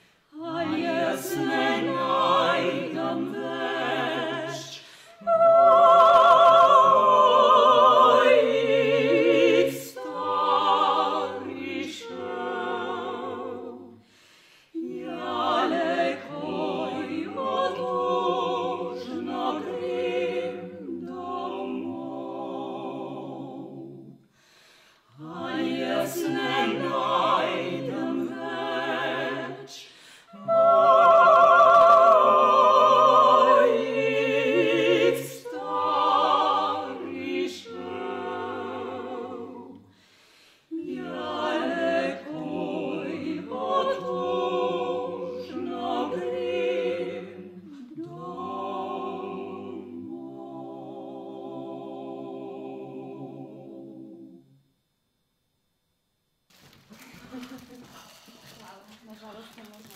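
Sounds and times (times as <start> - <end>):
vocal quartet singing operatically: 0.0 - 54.6.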